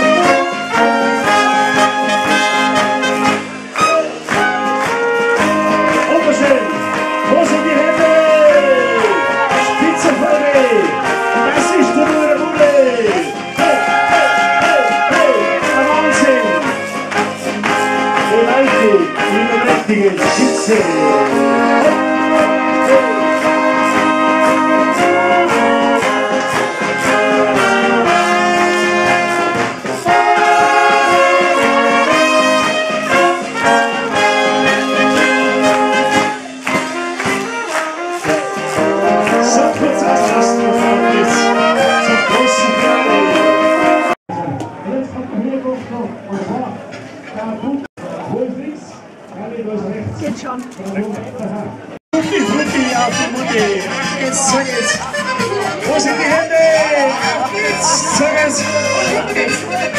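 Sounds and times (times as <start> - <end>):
brass band playing: 0.0 - 44.2, 51.7 - 59.9
people clapping along: 0.0 - 44.8, 52.2 - 59.9.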